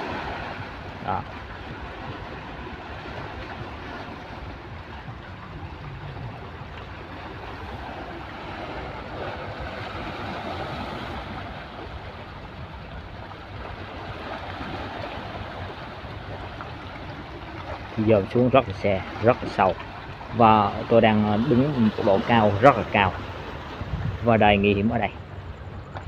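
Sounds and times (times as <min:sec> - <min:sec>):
sea waves washing on shore: 0:00.0 - 0:26.0.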